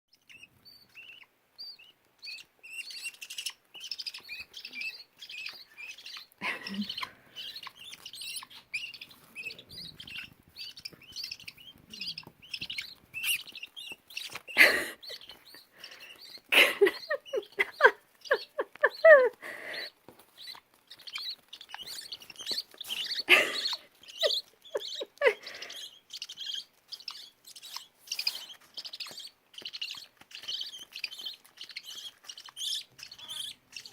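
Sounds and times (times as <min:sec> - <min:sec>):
budgerigar chicks chirping: 0:00.1 - 0:33.9
harsh bird calls: 0:00.1 - 0:33.9.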